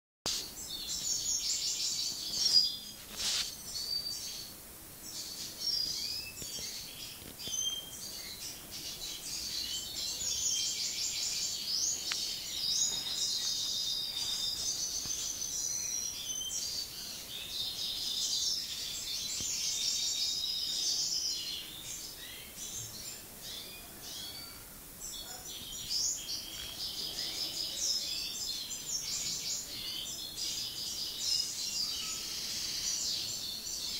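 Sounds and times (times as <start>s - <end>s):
finches twittering and singing: 0.3s - 33.9s.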